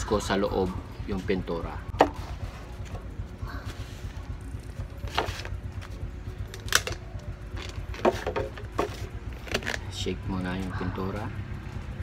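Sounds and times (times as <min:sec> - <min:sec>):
steady low rumble: 0:00.3 - 0:12.0.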